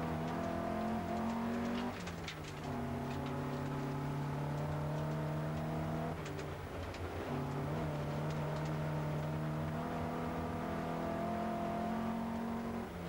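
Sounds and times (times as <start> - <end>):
car engine pulling hard: 0.0 - 13.0.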